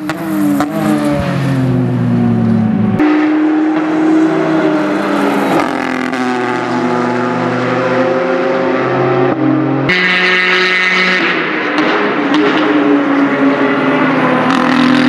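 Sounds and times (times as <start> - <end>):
race car engine passing: 0.0 - 9.9, 10.7 - 15.0.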